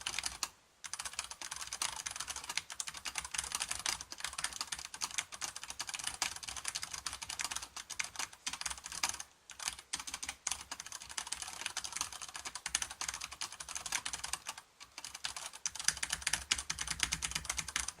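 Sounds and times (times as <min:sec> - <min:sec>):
fast mechanical keyboard typing: 0:00.0 - 0:18.0.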